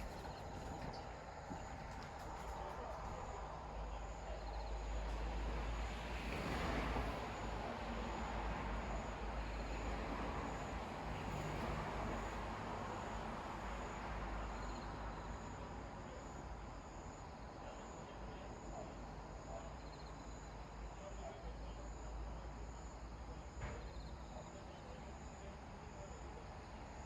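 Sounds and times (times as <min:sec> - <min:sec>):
low steady background noise: 0:00.0 - 0:27.0
night insects chirping: 0:00.0 - 0:27.0.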